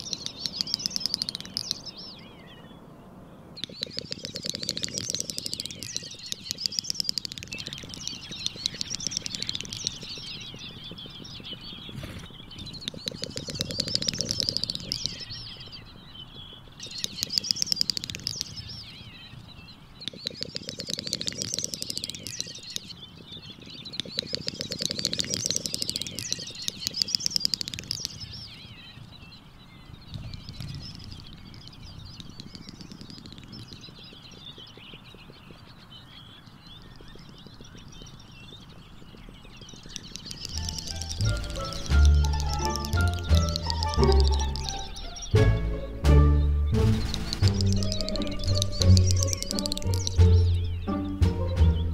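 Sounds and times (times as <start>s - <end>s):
bird song of clicks and warbles: 0.0s - 51.9s.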